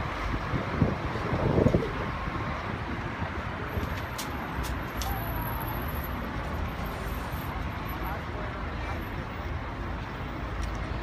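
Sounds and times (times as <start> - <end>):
city road traffic rumble: 0.0 - 11.0.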